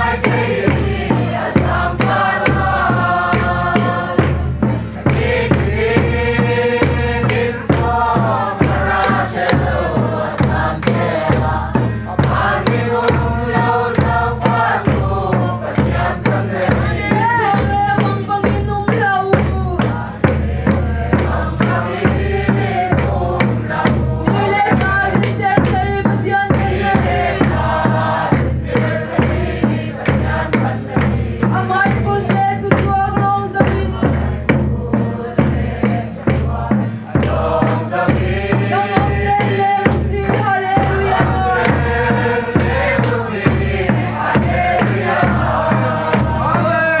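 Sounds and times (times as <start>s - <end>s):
group singing a hymn: 0.0s - 47.0s
hand drum beat: 0.0s - 47.0s.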